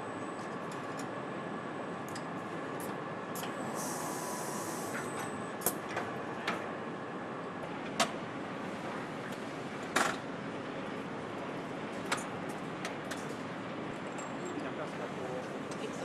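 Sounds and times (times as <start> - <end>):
factory equipment hum: 0.0 - 16.0.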